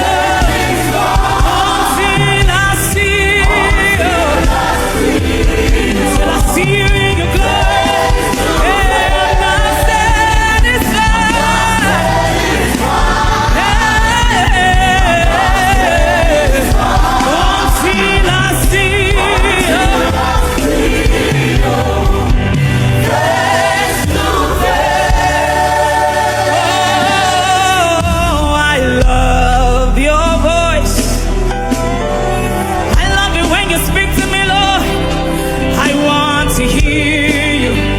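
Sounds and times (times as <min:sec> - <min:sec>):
band with steady beat: 0:00.0 - 0:37.9
choir singing: 0:00.0 - 0:37.9.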